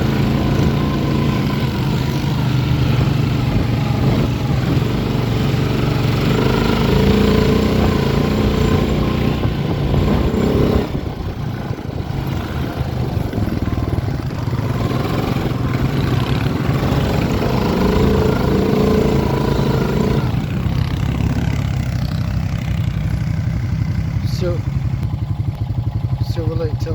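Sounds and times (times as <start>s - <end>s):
atv engine under throttle: 0.0s - 26.9s.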